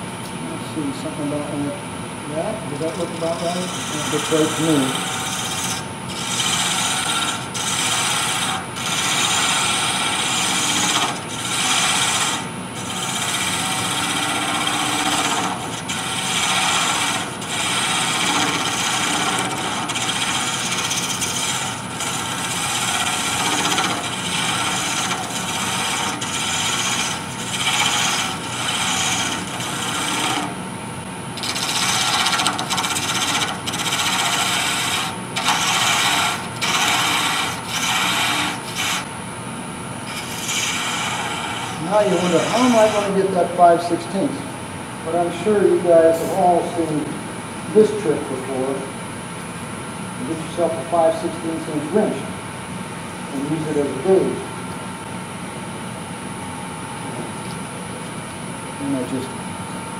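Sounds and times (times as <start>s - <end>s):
lathe tool shaving wood: 0.8s - 39.2s, 40.0s - 44.4s, 45.0s - 48.9s, 50.2s - 52.3s, 53.3s - 54.5s.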